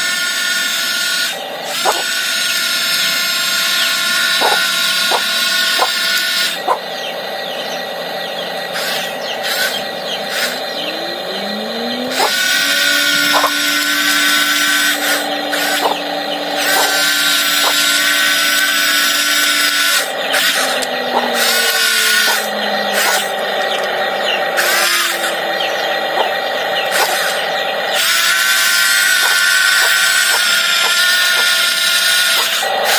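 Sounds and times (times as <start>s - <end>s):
small electric motors whining: 0.0s - 32.9s.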